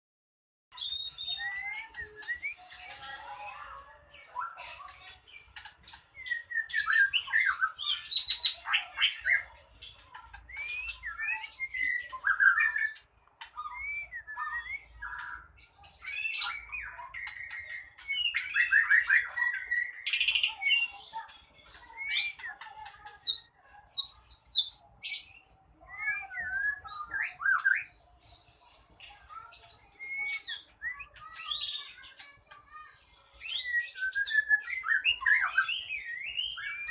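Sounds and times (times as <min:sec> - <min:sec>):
songbird singing aggressively: 0:00.7 - 0:36.9.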